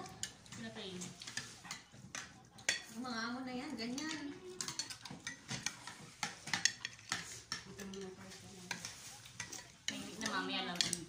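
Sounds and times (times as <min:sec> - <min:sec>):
cutlery clinking on plates: 0:00.0 - 0:11.0.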